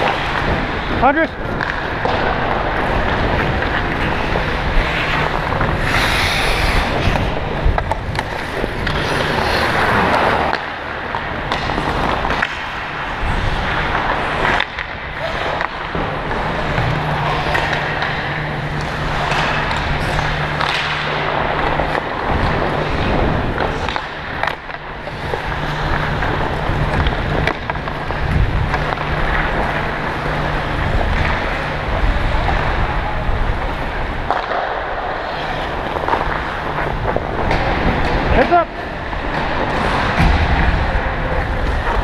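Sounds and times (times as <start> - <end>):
skate blades scraping ice: 0.0 - 42.0.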